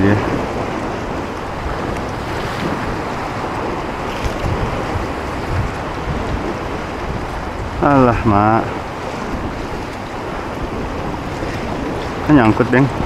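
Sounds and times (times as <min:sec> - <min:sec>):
surf on rocky shore: 0:00.0 - 0:13.0
wind buffeting microphone: 0:00.0 - 0:13.0.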